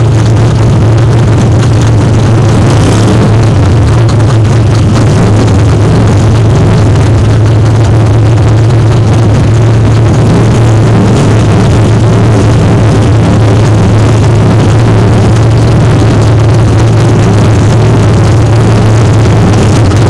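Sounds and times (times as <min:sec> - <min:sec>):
race car engine idling: 0:00.0 - 0:20.0.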